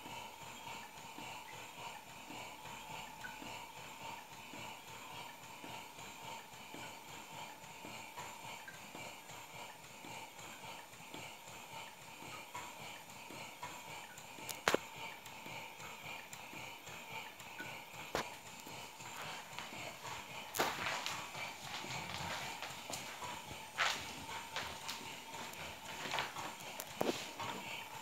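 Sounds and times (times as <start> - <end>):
model steam engine puffing and clatter: 0.0 - 28.0.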